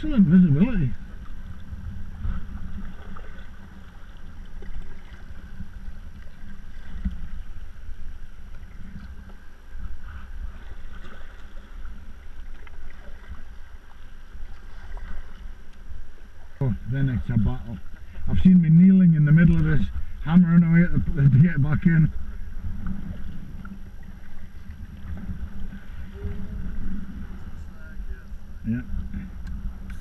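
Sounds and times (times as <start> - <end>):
water lapping against kayak hull: 0.0 - 30.0
wind rumble on microphone: 0.0 - 30.0.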